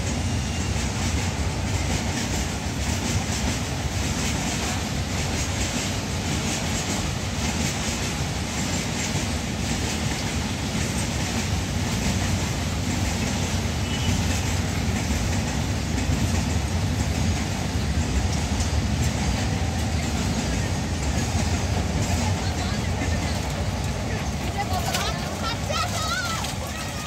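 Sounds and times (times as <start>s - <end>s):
freight train wagons rolling past: 0.0s - 27.0s.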